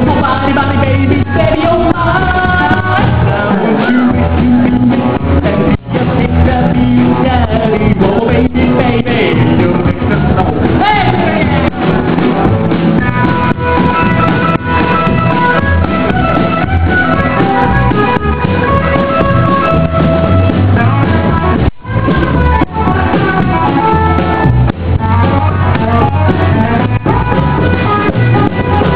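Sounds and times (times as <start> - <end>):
rockabilly band playing: 0.0 - 28.9.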